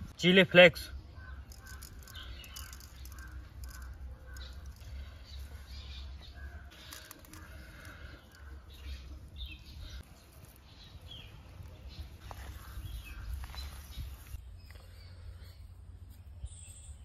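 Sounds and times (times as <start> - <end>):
bird calls: 0.9 - 15.8.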